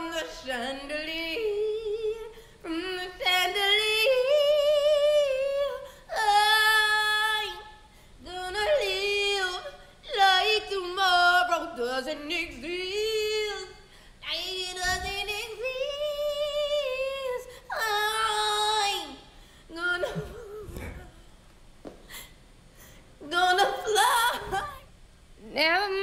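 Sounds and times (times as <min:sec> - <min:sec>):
woman singing unaccompanied: 0:00.0 - 0:21.3, 0:23.2 - 0:26.0.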